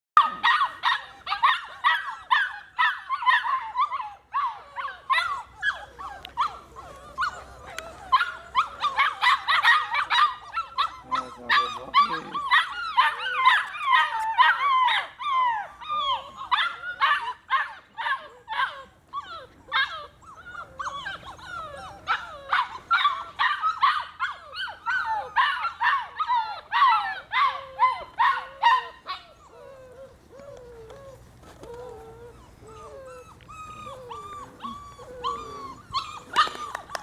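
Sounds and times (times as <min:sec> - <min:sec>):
puppy whining and yipping: 0:00.2 - 0:37.0.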